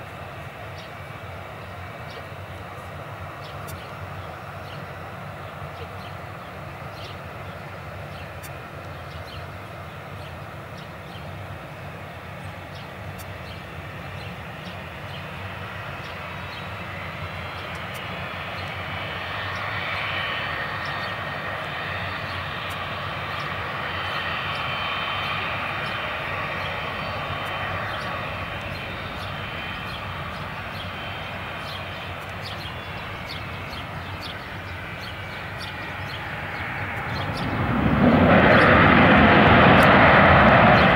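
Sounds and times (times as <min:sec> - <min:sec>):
high engine whine: 0:00.0 - 0:40.9
jet engines rumbling: 0:00.0 - 0:40.9.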